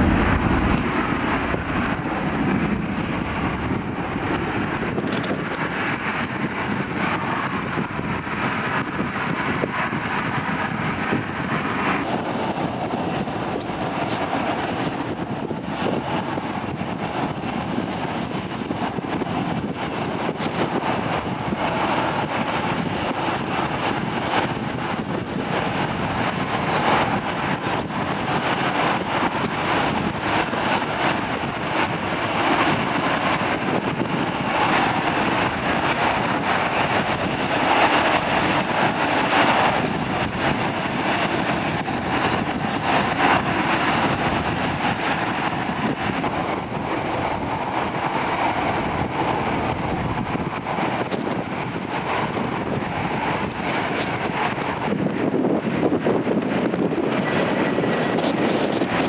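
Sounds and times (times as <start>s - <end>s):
jet engines running: 0.0s - 59.0s
wind on microphone: 0.0s - 59.0s.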